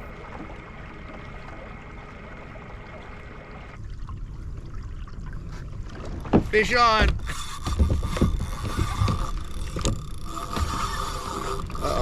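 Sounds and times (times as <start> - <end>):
water trickling and lapping: 0.0 - 12.0.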